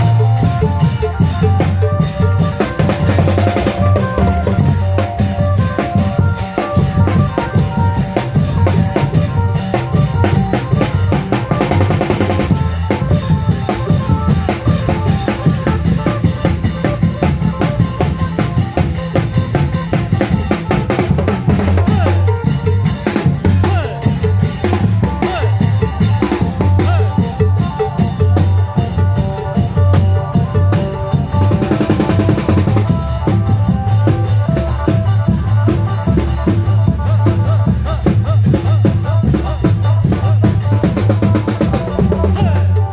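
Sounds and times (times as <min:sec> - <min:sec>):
deep drum beats: 0:00.0 - 0:42.9
drum band playing: 0:00.0 - 0:42.9
held melodic line: 0:00.0 - 0:42.9
sharp percussion strikes: 0:00.0 - 0:42.9.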